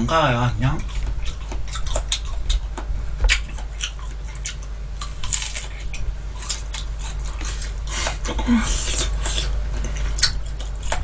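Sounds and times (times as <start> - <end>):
steady low hum: 0.0 - 11.0
wet chewing clicks and smacks: 0.8 - 8.3, 8.9 - 11.0.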